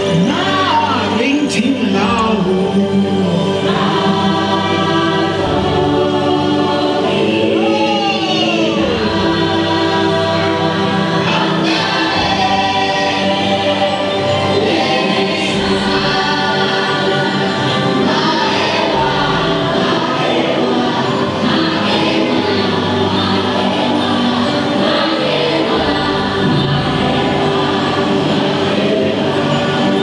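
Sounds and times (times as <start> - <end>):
choir singing held notes: 0.0 - 30.0.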